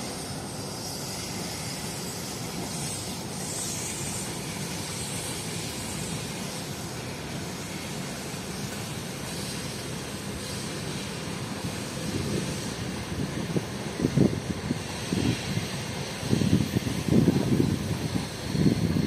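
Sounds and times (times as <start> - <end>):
hiss: 0.0 - 19.0
train wheels on track: 0.0 - 19.0.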